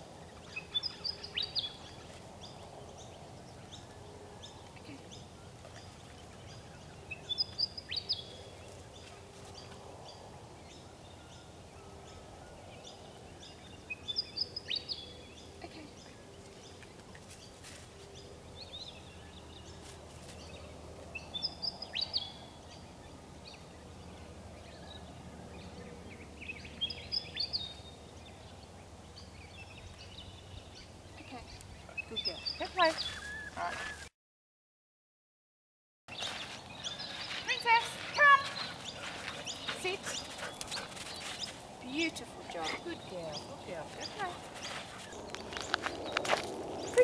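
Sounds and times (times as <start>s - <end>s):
low outdoor background hum: 0.0s - 34.0s, 36.1s - 47.0s
bird chirping: 0.0s - 34.1s, 36.1s - 47.0s.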